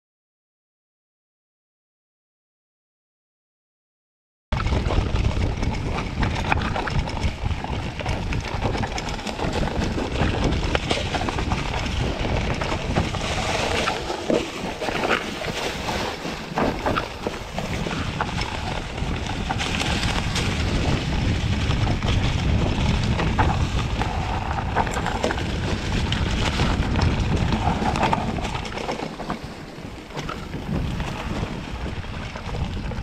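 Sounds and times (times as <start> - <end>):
bike rumbling on rough trail: 4.5 - 33.0
wind buffeting microphone: 4.5 - 33.0
tyres clicking and knocking on rocks: 4.6 - 33.0.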